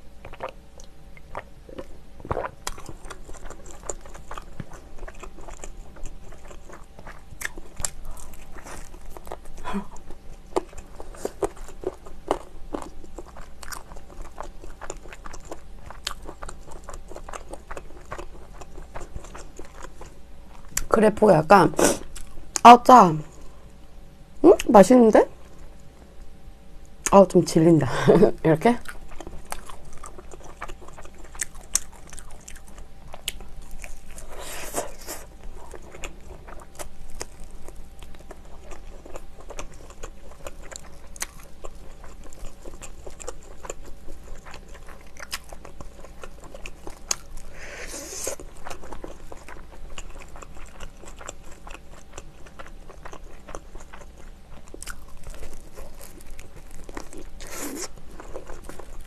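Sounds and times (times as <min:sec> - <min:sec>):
chewing: 0:00.2 - 0:20.9, 0:28.8 - 0:59.0
crunching fried chicken: 0:00.2 - 0:21.0, 0:28.8 - 0:59.0.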